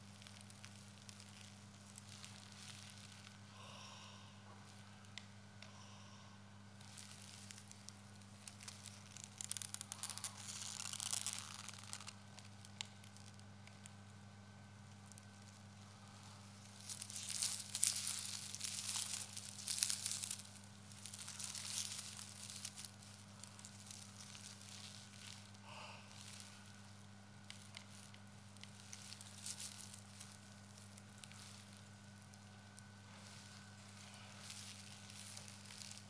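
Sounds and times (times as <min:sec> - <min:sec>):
tape crinkling and rustling: 0:00.0 - 0:03.5, 0:06.7 - 0:36.0
low hum: 0:00.0 - 0:36.0.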